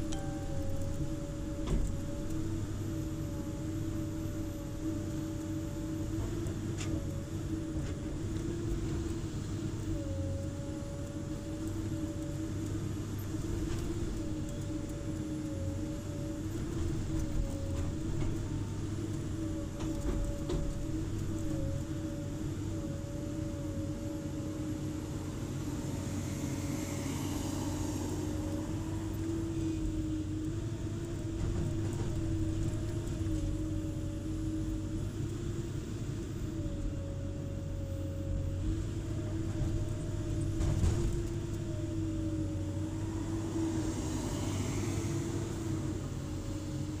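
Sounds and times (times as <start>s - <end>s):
excavator engine droning: 0.0s - 47.0s.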